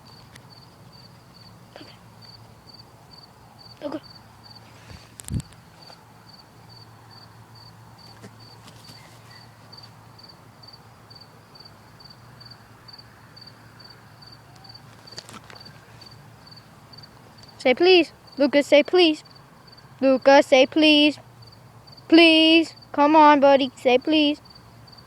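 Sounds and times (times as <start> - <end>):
cricket chirping: 0.0 - 23.0, 23.8 - 25.0.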